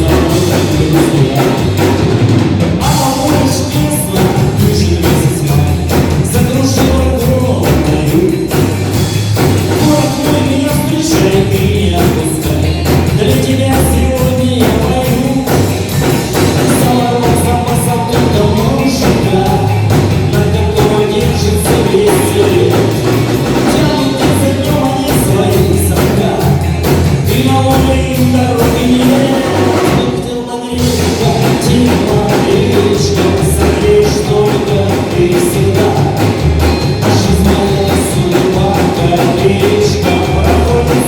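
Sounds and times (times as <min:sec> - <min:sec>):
bass guitar: 0:00.0 - 0:41.0
rock band playing live: 0:00.0 - 0:41.0
steady drum beat: 0:00.0 - 0:41.0.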